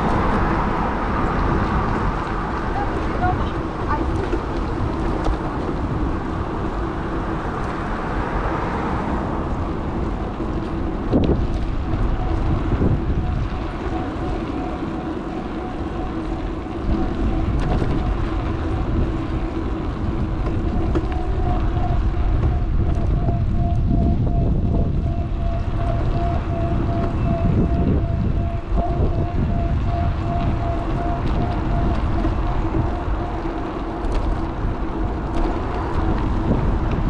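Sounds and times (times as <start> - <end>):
rolling road noise: 0.0 - 37.0
steady motor whine: 0.0 - 37.0
wind buffeting microphone: 0.0 - 37.0.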